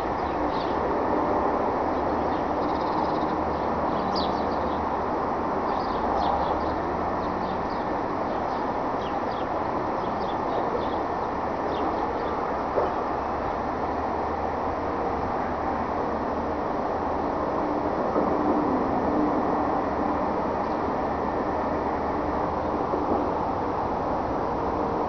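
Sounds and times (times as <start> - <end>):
steady outdoor rumble: 0.0 - 25.0.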